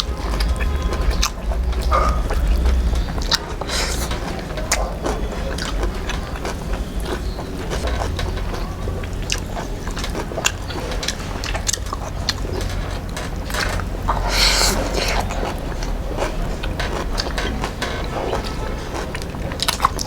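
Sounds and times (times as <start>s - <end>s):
person chewing and mouth sounds: 0.0s - 20.0s.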